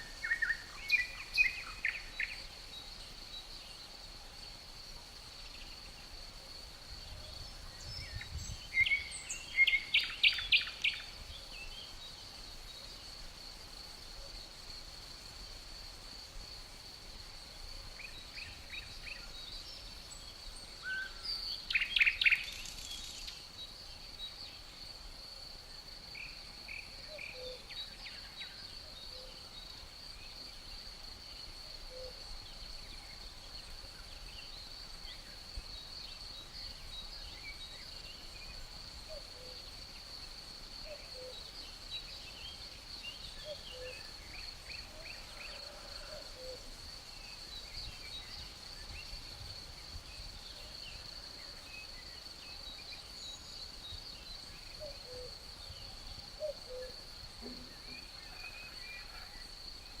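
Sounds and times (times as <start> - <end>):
high-pitched insect trill: 0.0 - 60.0.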